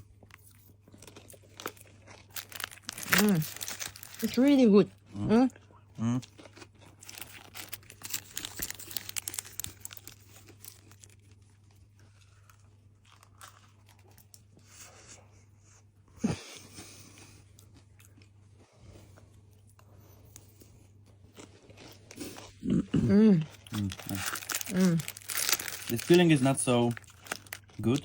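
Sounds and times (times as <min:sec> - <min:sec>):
crunching and chewing pastry: 0:00.0 - 0:28.0.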